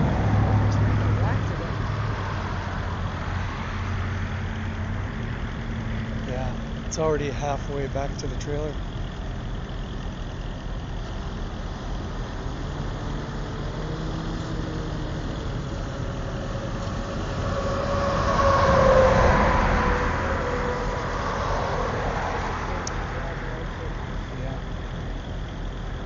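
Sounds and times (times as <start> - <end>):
large vehicle passing with whine: 0.0 - 26.0
vehicle engines rumbling: 0.0 - 26.0.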